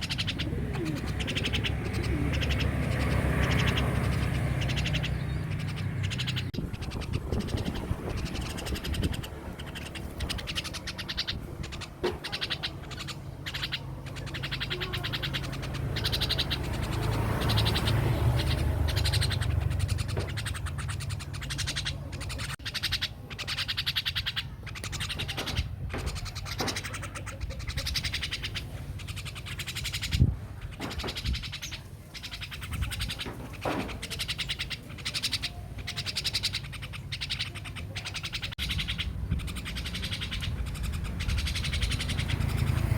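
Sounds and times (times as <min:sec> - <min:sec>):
starling calling and chattering: 0:00.0 - 0:42.9.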